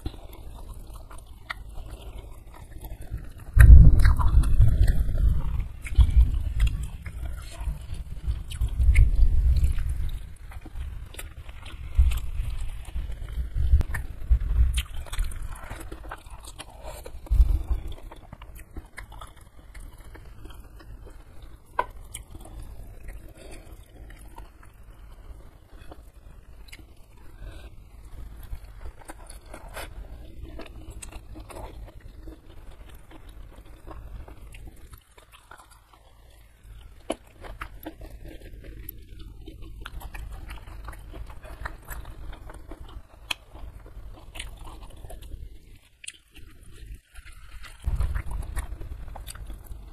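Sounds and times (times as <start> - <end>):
chewing and wet mouth sounds: 0.0 - 49.9.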